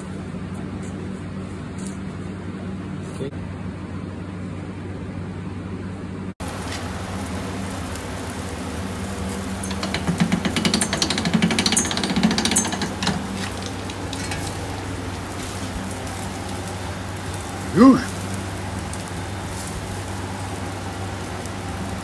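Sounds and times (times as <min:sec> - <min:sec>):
charcoal crackling and sizzling: 0:00.0 - 0:03.3, 0:06.4 - 0:22.0
steady low hum: 0:00.0 - 0:22.0.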